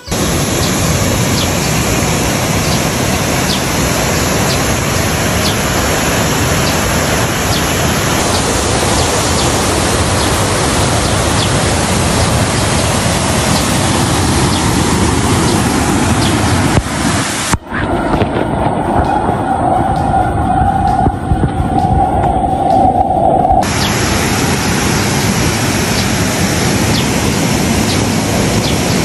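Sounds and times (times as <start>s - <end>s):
waterfall rushing over rocks: 0.0s - 19.7s, 23.6s - 29.0s.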